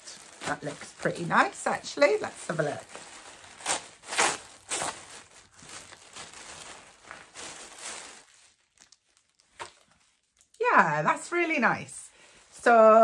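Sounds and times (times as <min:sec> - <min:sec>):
plastic packaging rustling: 0:00.0 - 0:11.6.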